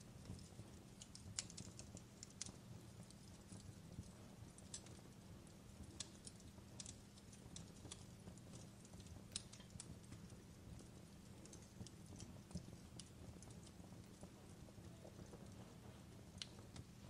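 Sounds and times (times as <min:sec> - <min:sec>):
fire pops and snaps: 0:00.0 - 0:17.0
low rumble of fire: 0:00.0 - 0:17.0.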